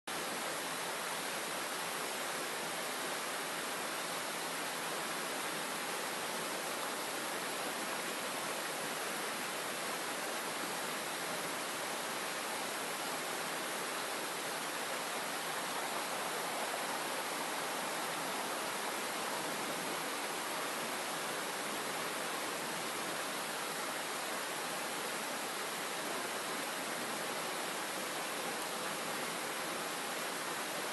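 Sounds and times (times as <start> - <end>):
fountain water rushing: 0.1 - 30.9.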